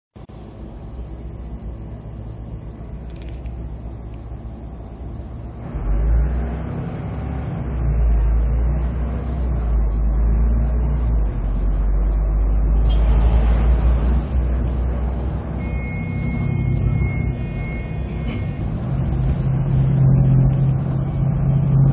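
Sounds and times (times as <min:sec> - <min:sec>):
bus diesel engine rumble: 0:00.2 - 0:21.9.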